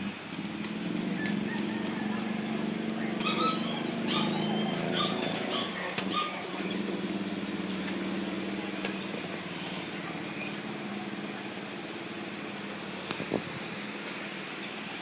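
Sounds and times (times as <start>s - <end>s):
engine humming: 0.0s - 15.0s
noisy background: 0.0s - 15.0s.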